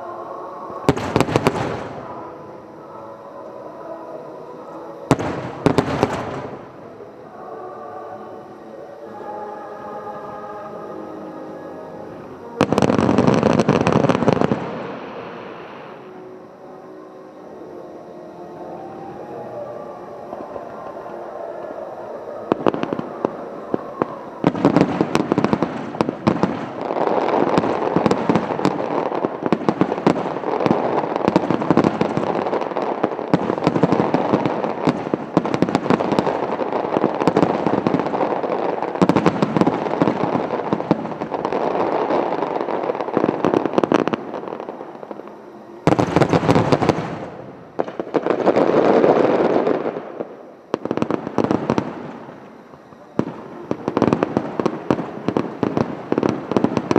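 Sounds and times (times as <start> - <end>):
fireworks bursting and crackling: 0.0 - 56.9.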